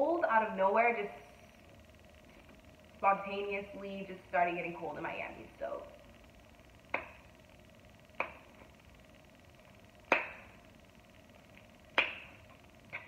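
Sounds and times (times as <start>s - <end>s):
faint room background: 0.0s - 13.0s.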